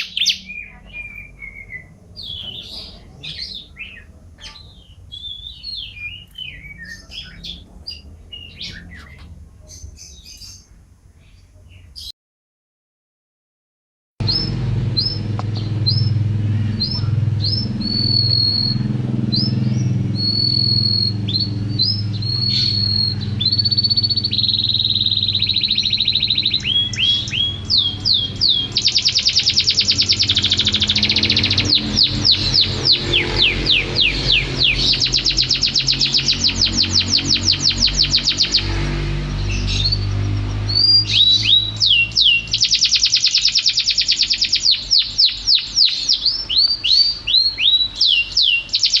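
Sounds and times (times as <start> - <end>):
steady low hum: 0.0 - 11.6, 14.2 - 45.8
canary singing: 0.0 - 12.1, 14.2 - 49.0.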